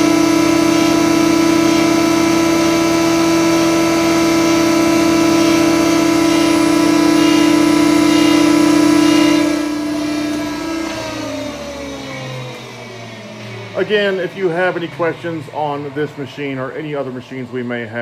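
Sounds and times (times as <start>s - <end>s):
planer running: 0.0s - 18.0s.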